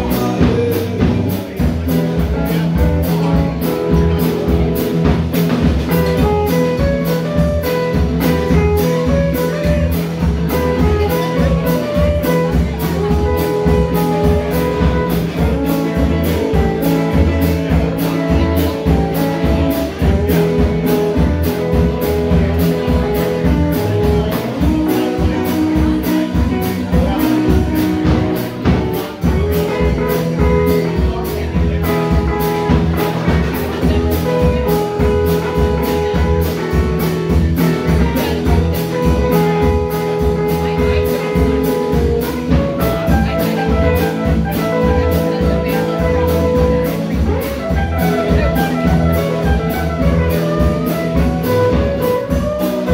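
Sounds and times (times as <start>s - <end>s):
bass guitar: 0.0s - 52.9s
drum kit beat: 0.0s - 52.9s
electric guitars: 0.0s - 52.9s.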